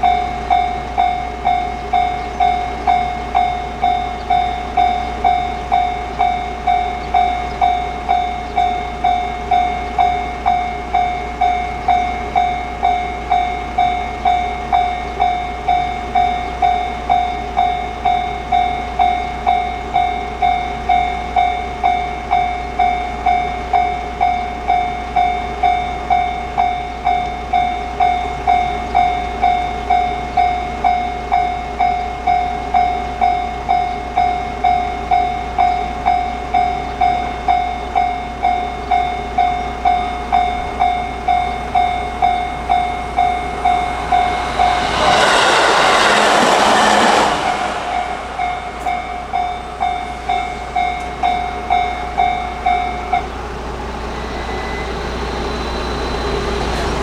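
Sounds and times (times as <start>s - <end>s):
level crossing alarm dinging: 0.0s - 46.0s, 48.8s - 57.0s.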